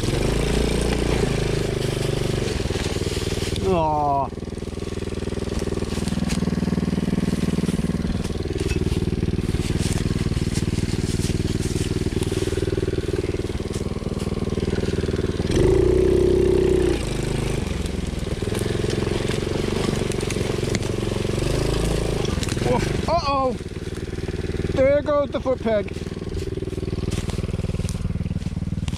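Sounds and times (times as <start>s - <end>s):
leaves and twigs crackling under tyres: 0.0s - 28.9s
small atv engine running: 0.0s - 28.9s.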